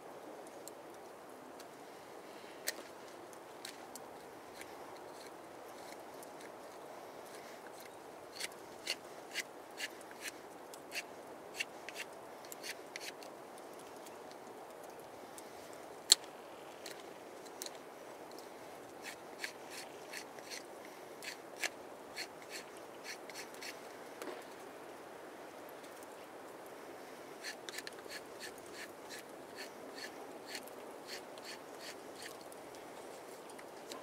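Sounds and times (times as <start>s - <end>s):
steady soft hiss: 0.0s - 34.0s.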